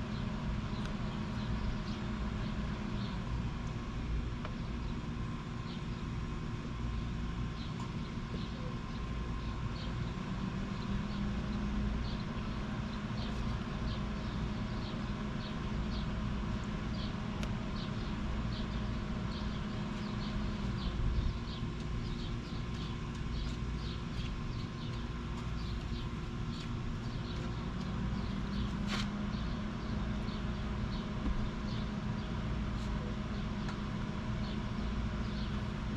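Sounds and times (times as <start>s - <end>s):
vehicle engine idling hum: 0.0s - 35.9s.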